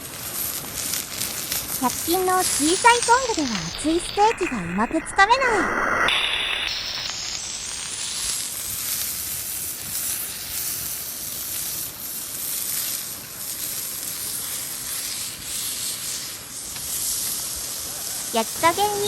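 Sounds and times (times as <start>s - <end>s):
steak sizzling in a skillet: 0.0s - 19.0s.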